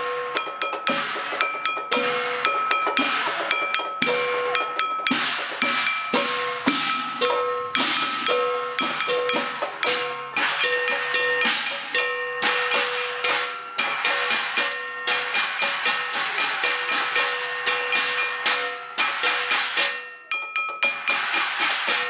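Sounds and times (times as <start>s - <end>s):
gong and drum percussion music: 0.0s - 22.0s.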